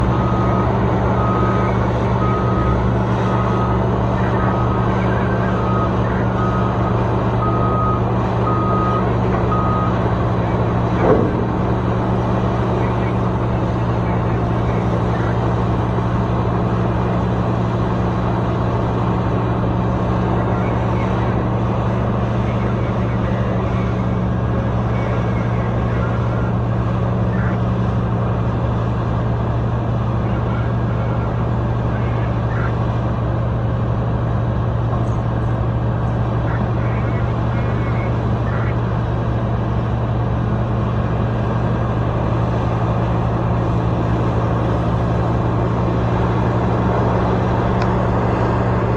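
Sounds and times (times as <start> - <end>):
diesel engines droning: 0.0 - 48.9.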